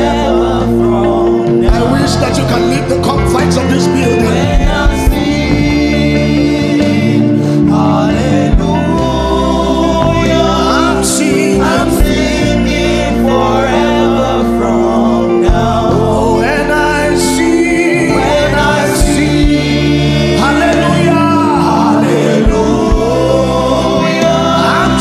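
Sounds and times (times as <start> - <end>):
backing chords and bass: 0.0 - 25.0
gospel singing: 0.0 - 25.0.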